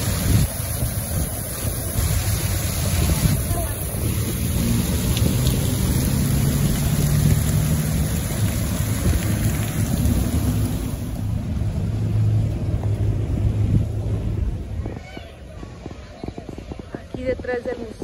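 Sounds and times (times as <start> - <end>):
fountain water splashing: 0.0 - 14.8
wind buffeting microphone: 0.0 - 18.0.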